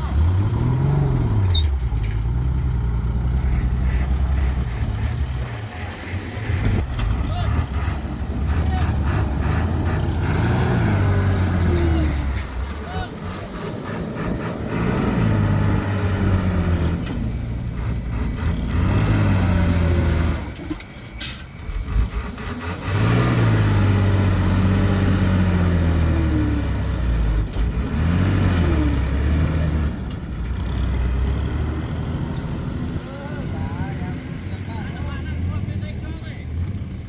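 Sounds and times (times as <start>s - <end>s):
heavy vehicle engine revving: 0.0s - 37.0s.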